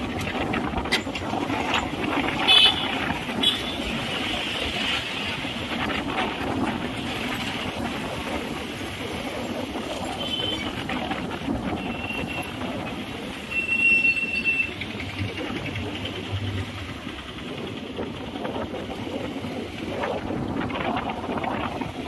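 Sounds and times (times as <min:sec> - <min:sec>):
rumbling traffic: 0:00.0 - 0:22.0.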